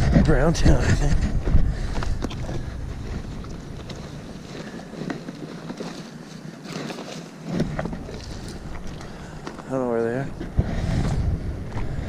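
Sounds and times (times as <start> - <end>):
wind rumbling on microphone: 0.0 - 5.5, 7.4 - 12.0
footsteps on river cobbles: 0.0 - 12.0.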